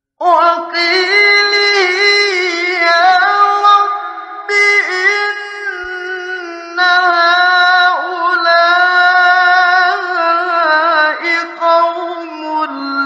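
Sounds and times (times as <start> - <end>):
man chanting recitation: 0.2 - 13.0.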